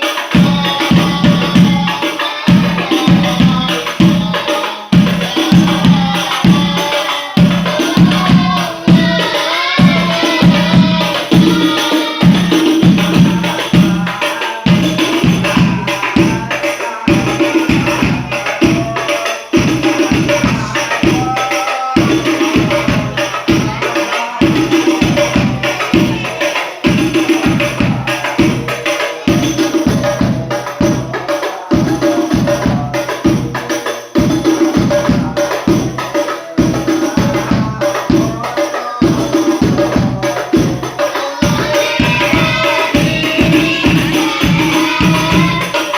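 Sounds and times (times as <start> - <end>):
frame drums playing fast rhythm: 0.0 - 45.9
voices singing: 0.0 - 45.9.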